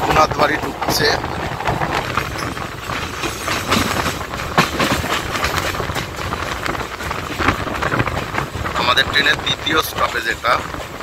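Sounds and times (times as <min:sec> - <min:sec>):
train rolling rumble: 0:00.0 - 0:11.0
wheels clicking over rail joints: 0:00.0 - 0:11.0.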